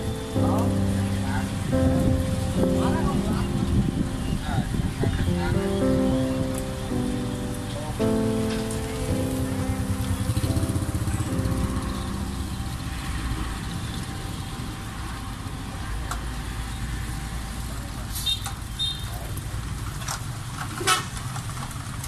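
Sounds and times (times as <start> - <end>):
low rumble of traffic engines: 0.0 - 22.0.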